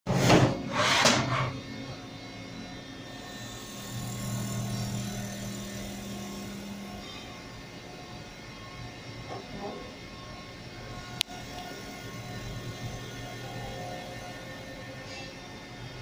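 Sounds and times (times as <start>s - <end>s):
milling machine humming: 1.5s - 16.0s.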